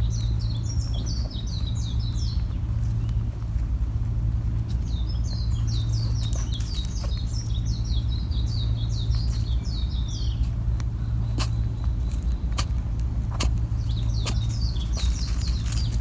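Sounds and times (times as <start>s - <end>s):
songbird chirping: 0.0s - 3.6s, 4.3s - 16.0s
steady low hum: 0.0s - 16.0s.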